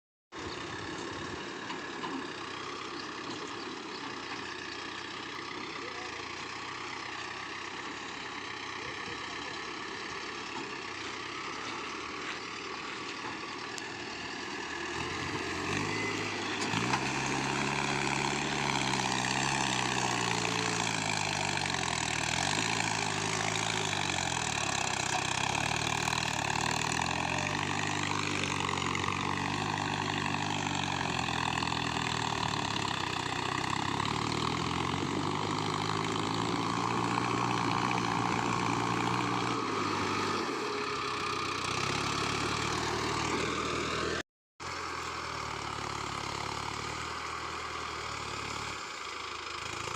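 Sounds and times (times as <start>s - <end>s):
tractor diesel engines running: 0.4s - 49.9s.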